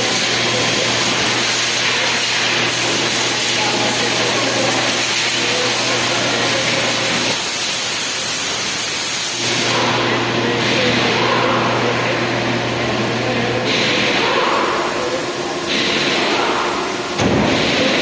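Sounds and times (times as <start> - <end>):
air conditioner running: 0.0 - 18.0.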